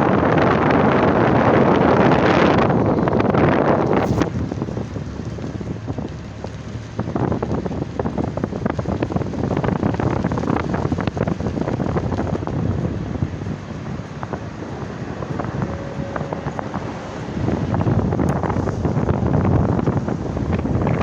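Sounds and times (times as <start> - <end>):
wind buffeting microphone: 0.0 - 21.0
wind gusting: 0.0 - 21.0.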